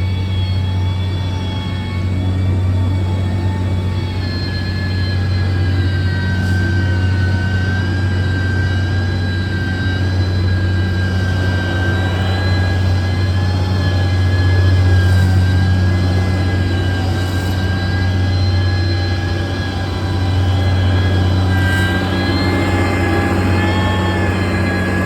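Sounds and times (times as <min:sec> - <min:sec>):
diesel engine humming: 0:00.0 - 0:25.0
high whine: 0:00.0 - 0:25.0.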